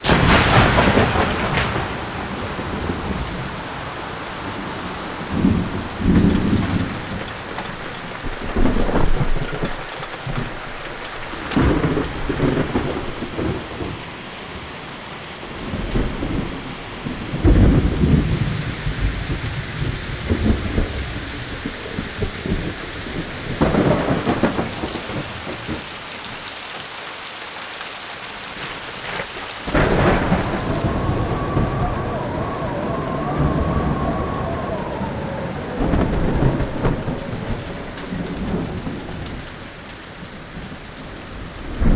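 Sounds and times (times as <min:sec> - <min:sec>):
rolling thunder: 0:00.0 - 0:14.7, 0:15.5 - 0:26.4, 0:29.0 - 0:41.9
heavy rain: 0:00.0 - 0:41.9.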